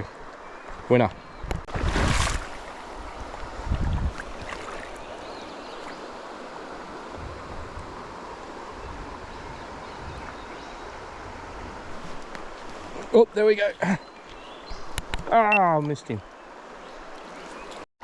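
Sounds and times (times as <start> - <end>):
river water rushing: 1.7 - 15.6, 16.2 - 17.9.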